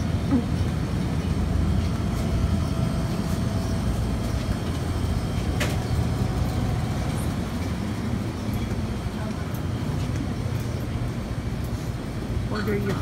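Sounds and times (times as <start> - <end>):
refrigerator machinery hum: 0.0 - 13.0.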